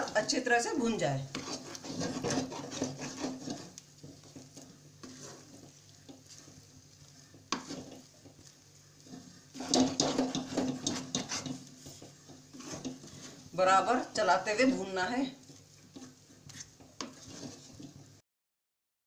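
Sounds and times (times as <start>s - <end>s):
light sizzle: 0.0s - 18.2s
spatula scraping metal pan: 0.0s - 18.2s.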